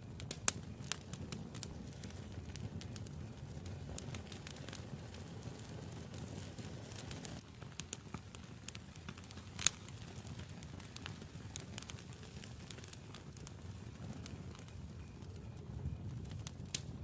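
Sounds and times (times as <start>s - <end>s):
campfire flame rushing: 0.0s - 17.0s
fire crackling and popping: 0.0s - 17.0s.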